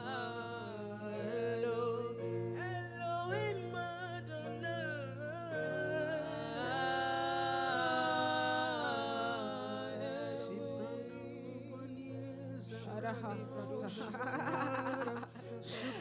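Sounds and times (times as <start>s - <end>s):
low musical backing: 0.0s - 16.0s
person singing: 0.0s - 16.0s.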